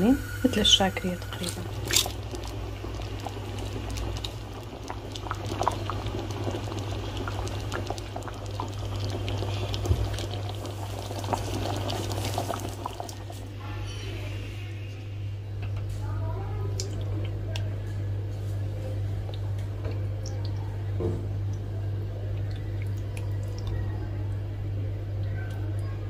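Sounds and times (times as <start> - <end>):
steady low hum: 0.0 - 26.0
sauce bubbling in a pot: 0.1 - 15.3, 16.6 - 26.0.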